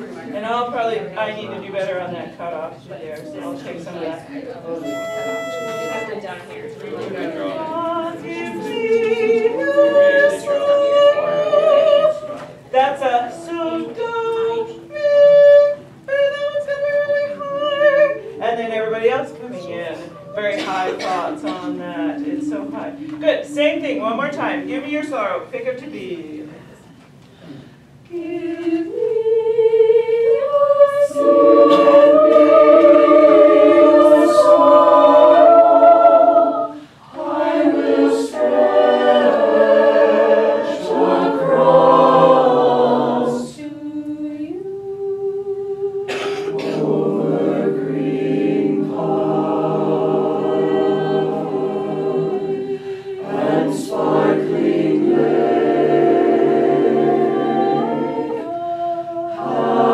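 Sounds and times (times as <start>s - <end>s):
choir singing unaccompanied: 4.8s - 24.8s, 28.1s - 59.9s.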